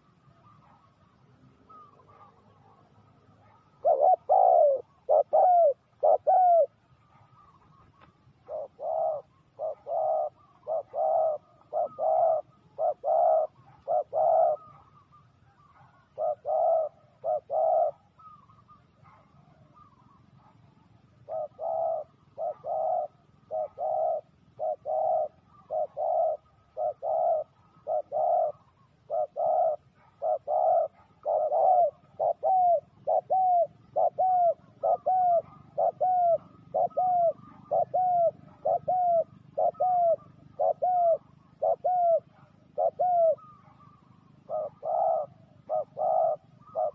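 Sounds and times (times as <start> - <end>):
doves cooing: 0.0 - 46.9.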